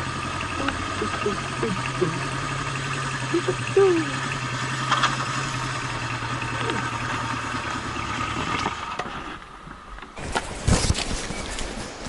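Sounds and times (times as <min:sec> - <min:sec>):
motorcycle engine idling: 0:00.0 - 0:09.9.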